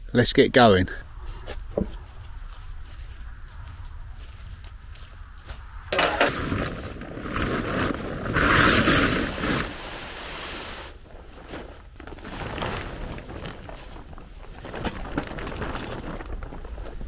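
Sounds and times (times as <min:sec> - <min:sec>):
plastic sheet rustling over grass: 0:01.0 - 0:17.0.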